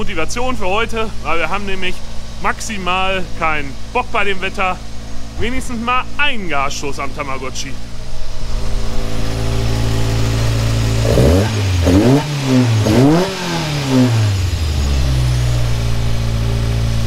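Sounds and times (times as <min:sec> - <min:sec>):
engine throttle blips: 0:00.0 - 0:17.0
race car engine idling: 0:00.0 - 0:17.0.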